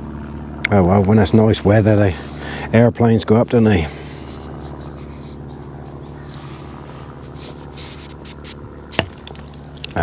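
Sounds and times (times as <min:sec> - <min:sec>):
aeroplane engine drone: 0:00.0 - 0:10.0.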